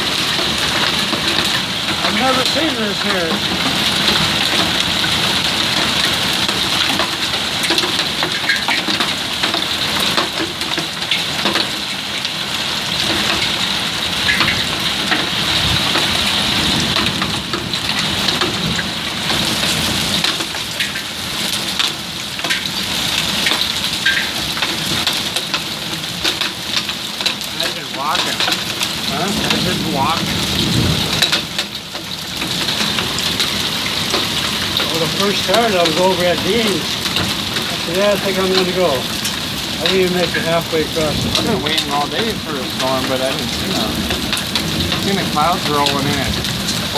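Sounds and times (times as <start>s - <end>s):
rain and hail pelting down: 0.0s - 46.9s.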